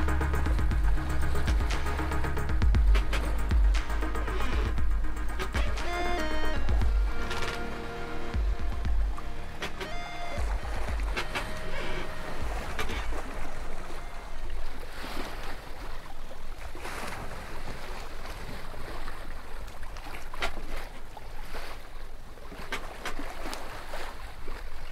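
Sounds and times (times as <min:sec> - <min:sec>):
ocean water rushing: 0:00.0 - 0:24.9
water splashing: 0:00.0 - 0:24.9.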